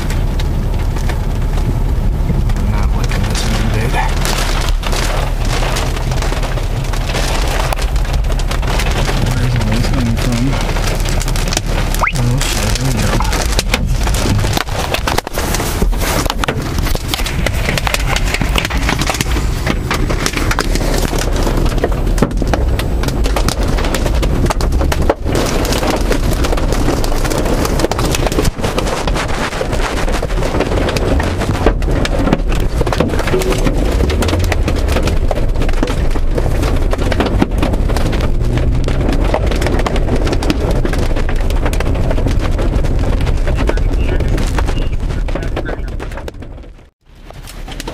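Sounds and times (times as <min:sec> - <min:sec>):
hail and rain on car roof: 0:00.0 - 0:47.9.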